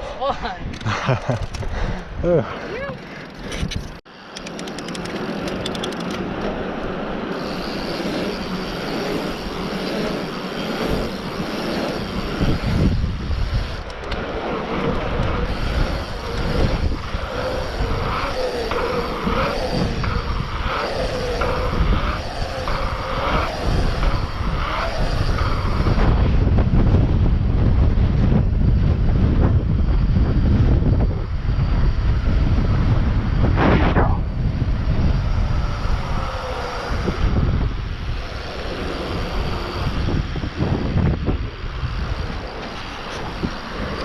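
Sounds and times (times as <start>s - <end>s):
wind rushing over microphone: 0.0s - 44.0s
wavering hum: 3.0s - 44.0s.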